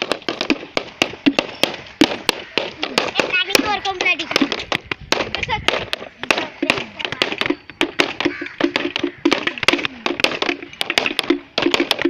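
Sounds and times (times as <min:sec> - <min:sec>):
sharp cracks and taps: 0:00.0 - 0:12.0.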